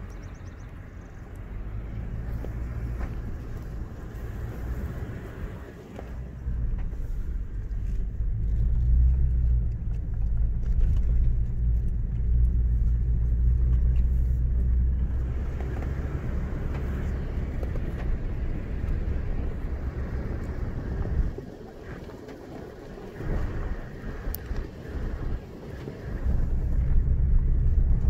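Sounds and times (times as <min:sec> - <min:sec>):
vehicle engine and road rumble: 0:00.0 - 0:28.0
wind and tyre hiss: 0:00.0 - 0:28.0.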